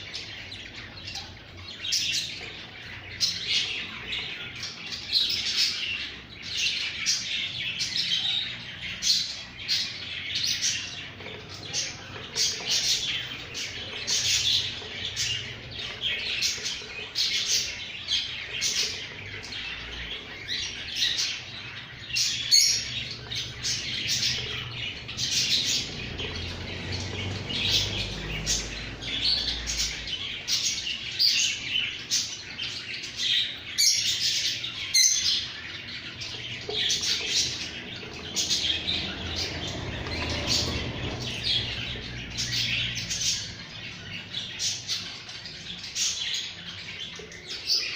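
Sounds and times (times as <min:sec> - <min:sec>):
pet birds chirping: 0:00.0 - 0:47.9.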